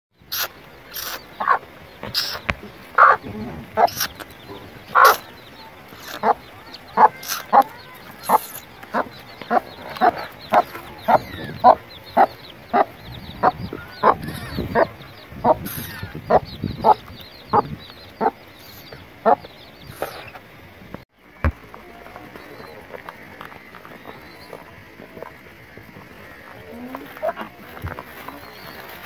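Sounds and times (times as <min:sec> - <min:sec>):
hen clucking: 0:00.2 - 0:20.5, 0:22.3 - 0:29.0
chicks peeping: 0:00.2 - 0:29.0.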